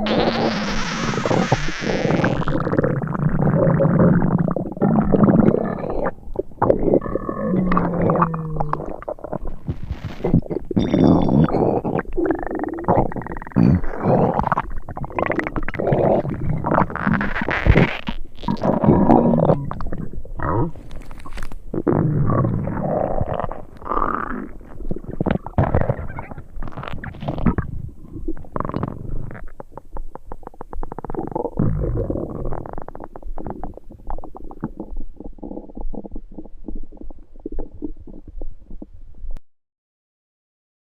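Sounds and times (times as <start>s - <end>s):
stomach rumbling and gurgling: 0.0s - 39.4s.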